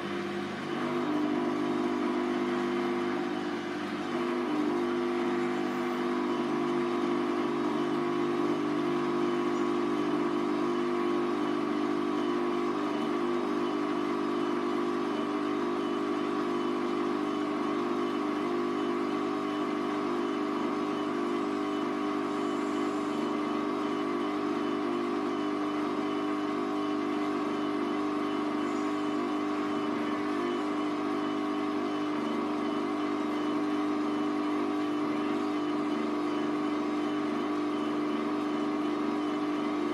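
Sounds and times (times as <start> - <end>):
washing machine motor humming: 0.0 - 39.9.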